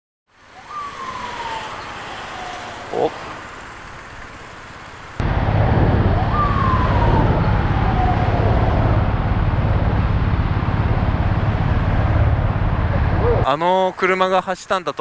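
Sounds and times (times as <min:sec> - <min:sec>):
faint siren wail: 0:00.4 - 0:13.6
motorcycle road and wind rumble: 0:00.4 - 0:13.6.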